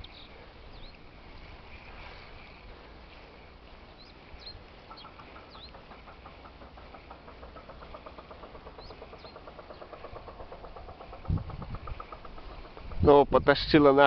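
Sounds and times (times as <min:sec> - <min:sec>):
high bird chirps: 0:00.0 - 0:02.7, 0:03.8 - 0:13.0.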